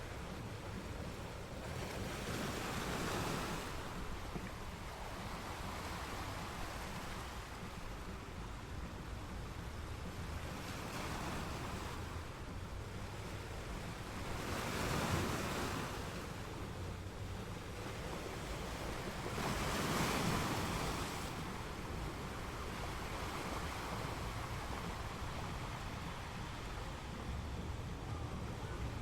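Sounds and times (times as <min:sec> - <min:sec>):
ocean waves washing in: 0:00.0 - 0:29.0.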